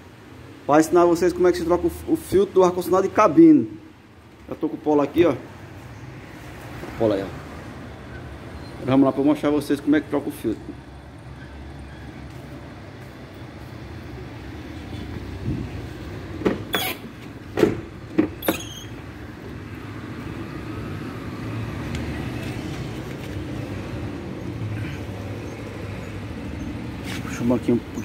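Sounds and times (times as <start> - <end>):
low traffic rumble: 0.0 - 28.0.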